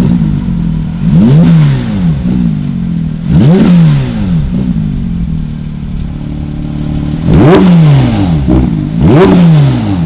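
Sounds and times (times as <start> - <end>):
car engine idling: 0.0 - 10.0
car engine revving: 0.0 - 10.0.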